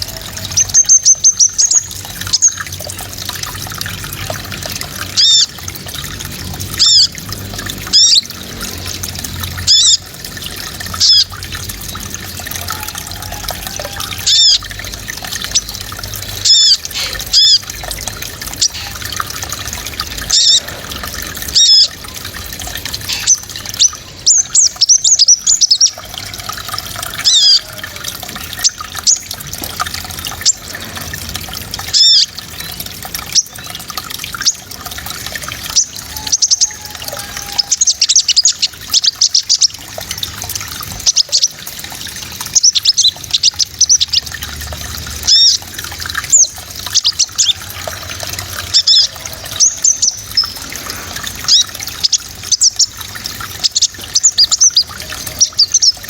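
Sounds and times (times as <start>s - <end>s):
trickle of running water: 0.0s - 56.0s.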